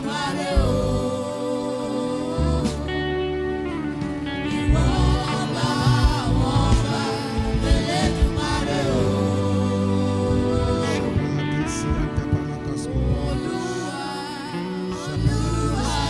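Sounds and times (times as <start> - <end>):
gospel singing: 0.0 - 16.0
sustained instrumental backing: 0.0 - 16.0.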